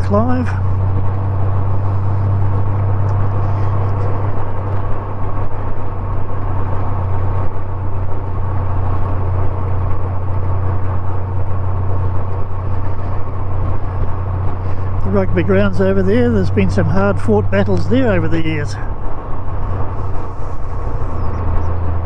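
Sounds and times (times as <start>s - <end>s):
motorcycle engine cruising: 0.0s - 22.0s
road and wind noise: 0.0s - 22.0s.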